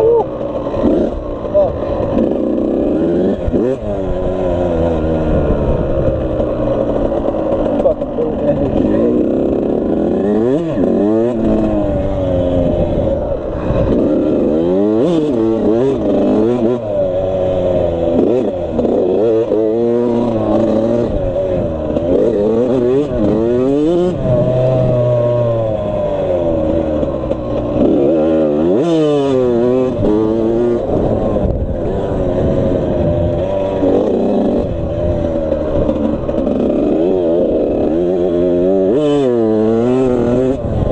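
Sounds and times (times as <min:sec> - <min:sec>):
two-stroke dirt bike revving: 0:00.0 - 0:40.9.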